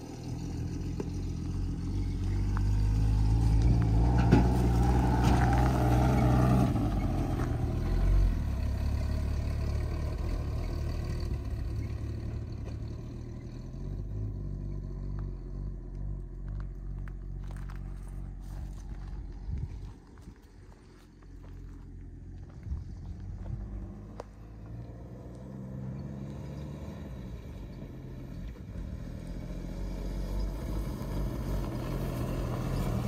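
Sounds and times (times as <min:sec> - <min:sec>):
ute engine running: 0:00.0 - 0:33.0.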